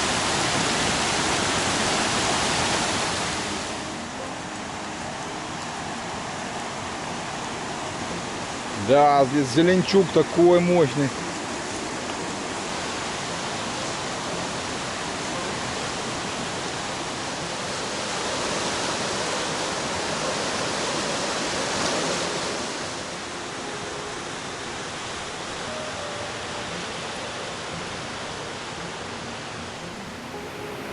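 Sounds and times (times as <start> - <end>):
mountain river rushing: 0.0 - 30.9.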